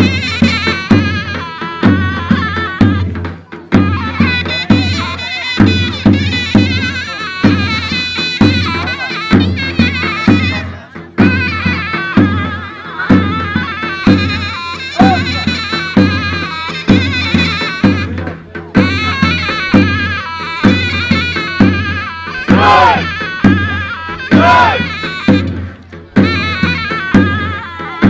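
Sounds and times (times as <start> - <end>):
shrill reed pipe melody: 0.0 - 28.0.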